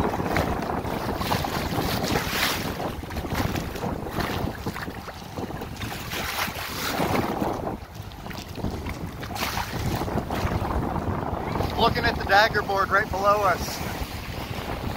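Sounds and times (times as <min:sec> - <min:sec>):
water splashing along hull: 0:00.0 - 0:14.9
wind buffeting microphone: 0:00.0 - 0:14.9.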